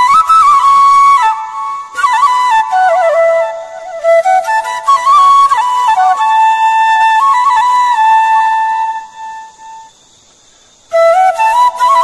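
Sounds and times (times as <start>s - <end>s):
flute melody: 0.0s - 9.9s, 10.9s - 12.0s.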